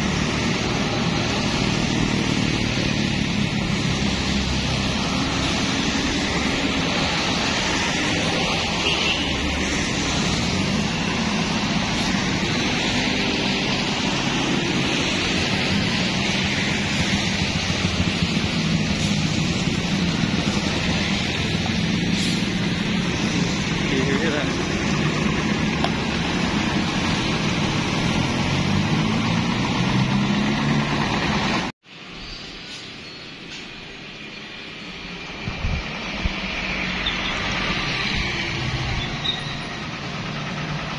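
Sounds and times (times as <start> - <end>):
hiss of wet road and rain: 0.0 - 30.0, 31.0 - 40.9
bus diesel engine running: 0.0 - 31.8, 33.4 - 40.9.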